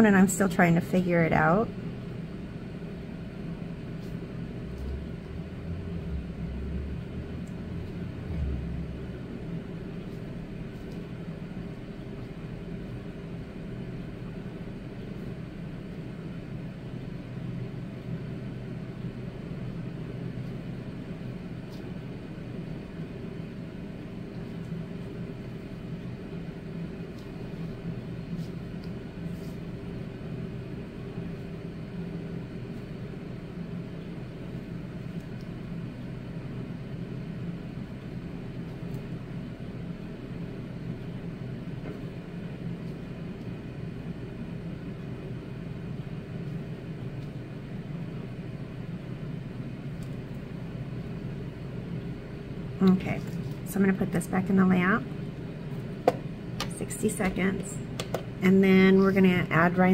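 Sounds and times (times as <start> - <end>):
motor humming drone: 0.1 - 59.9.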